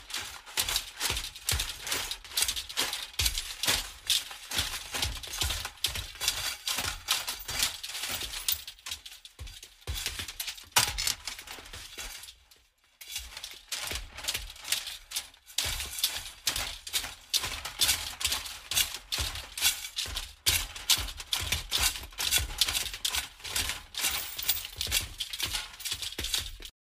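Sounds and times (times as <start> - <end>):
metal pieces rattling: 0.0 - 12.1, 13.0 - 26.7.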